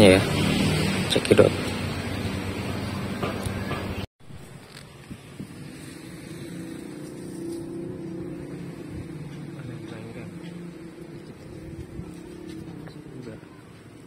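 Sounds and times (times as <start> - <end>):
low motor hum: 1.7 - 14.0.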